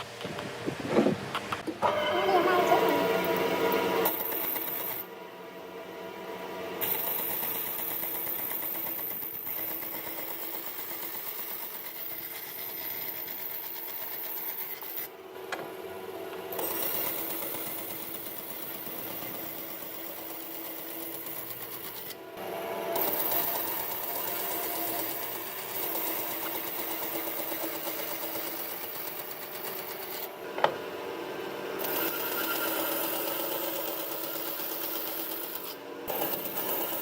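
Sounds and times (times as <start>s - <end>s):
woodworking machine running: 1.8s - 37.0s.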